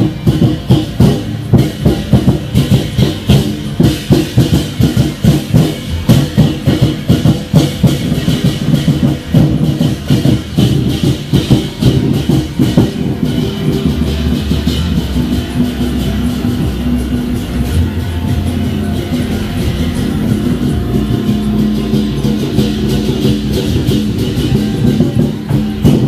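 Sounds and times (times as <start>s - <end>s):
bright ringing layer: 0.0s - 26.0s
drums beating fast rhythm: 0.0s - 26.0s.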